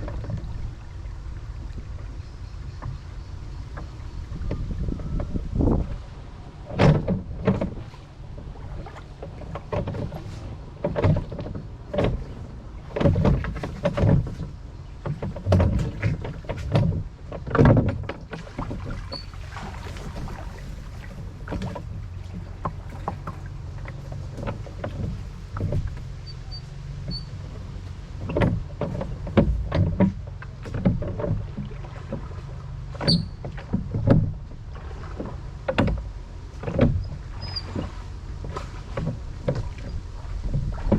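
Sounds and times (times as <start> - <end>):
wind on microphone: 0.0 - 30.0, 36.8 - 40.9
oars splashing and knocking: 0.0 - 40.9.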